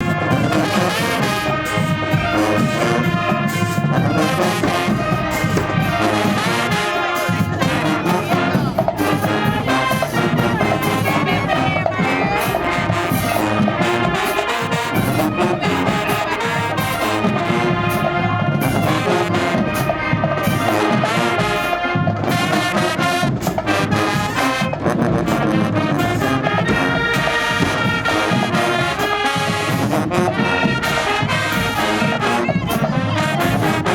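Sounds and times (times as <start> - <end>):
marching band brass: 0.0 - 33.9
marching band drums: 0.0 - 33.9.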